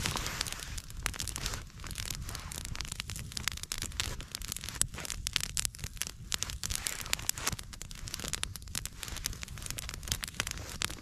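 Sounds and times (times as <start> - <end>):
campfire crackling: 0.0 - 11.0
low rush of flame: 0.0 - 11.0.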